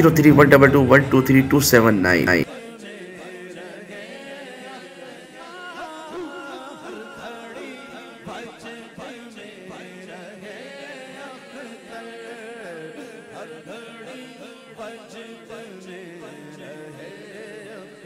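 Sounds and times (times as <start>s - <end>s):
person singing devotional melody: 0.0s - 18.0s.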